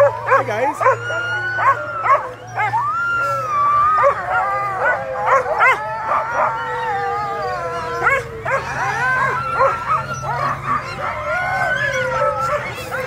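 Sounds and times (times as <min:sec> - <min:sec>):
dogs yipping and barking: 0:00.0 - 0:13.0
sled dogs howling: 0:00.0 - 0:13.0.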